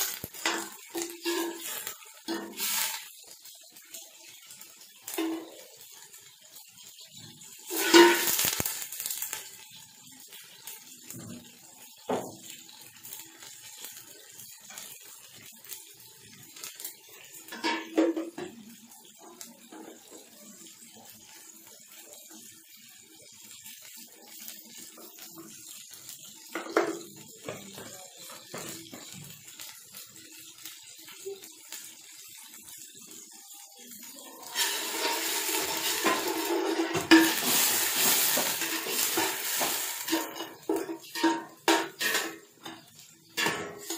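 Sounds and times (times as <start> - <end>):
pot bubbling on stove: 0.0 - 43.9.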